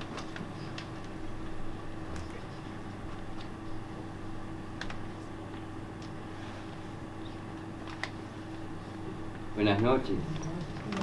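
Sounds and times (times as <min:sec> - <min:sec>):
room tone hum: 0:00.0 - 0:11.0.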